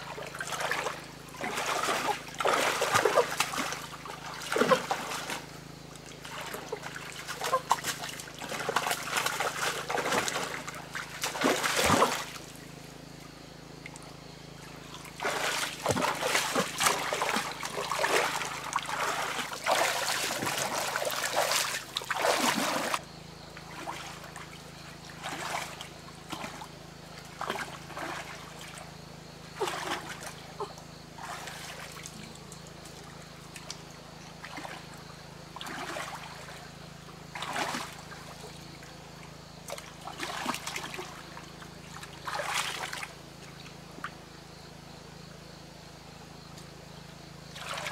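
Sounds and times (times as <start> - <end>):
stream water splashing: 0.0 - 12.6, 14.6 - 44.2, 47.5 - 47.9.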